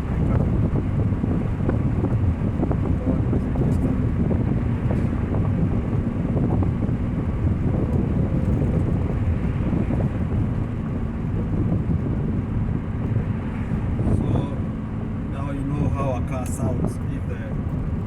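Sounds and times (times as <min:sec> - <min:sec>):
car exhaust rumble: 0:00.0 - 0:18.0
wind and road noise: 0:00.0 - 0:18.0.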